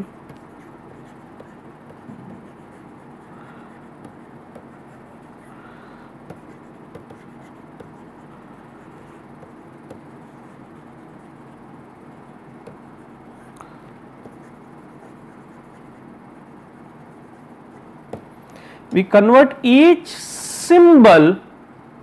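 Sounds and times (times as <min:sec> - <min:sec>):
stylus scratching on tablet screen: 0:00.0 - 0:13.6, 0:14.2 - 0:18.3.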